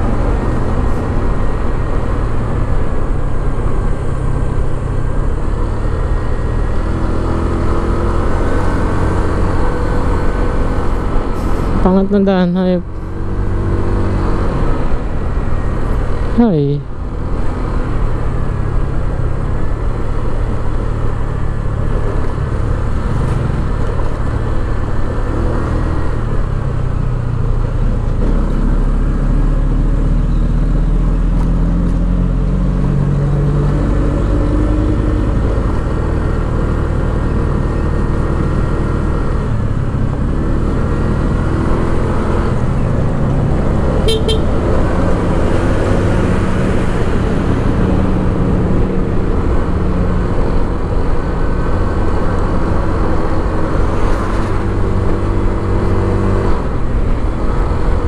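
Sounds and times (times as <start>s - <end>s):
wind and road noise rumble: 0.0s - 58.0s.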